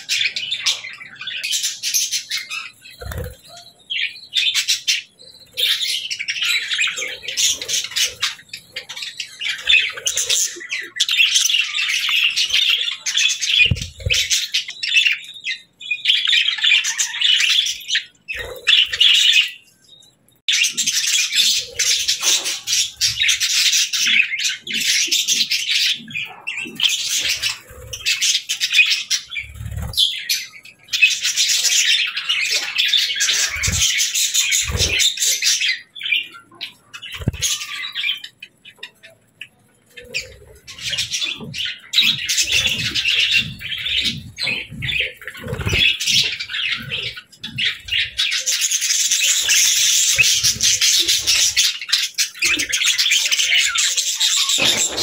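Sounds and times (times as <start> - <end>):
budgerigars chattering and warbling: 0.0 - 19.7, 20.4 - 55.0.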